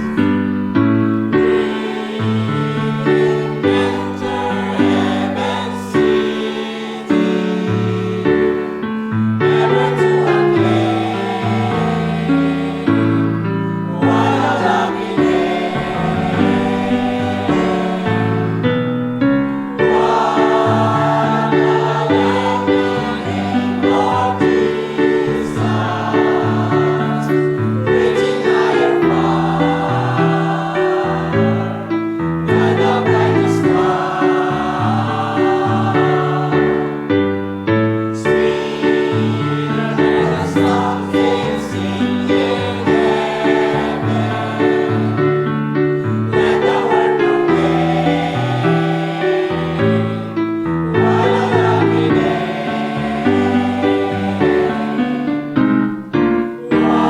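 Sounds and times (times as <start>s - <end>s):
choir singing gospel: 0.0s - 57.0s.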